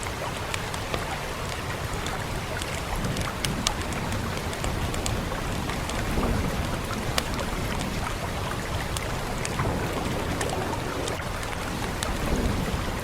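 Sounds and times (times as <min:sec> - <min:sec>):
rain hissing: 0:00.0 - 0:13.0
wood fire crackling: 0:00.0 - 0:13.0.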